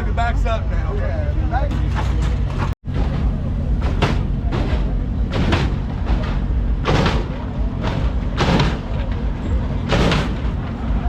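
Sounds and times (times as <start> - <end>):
crowd noise: 0.0 - 11.0
steady low hum: 0.0 - 11.0
car slamming up and down: 1.7 - 11.0.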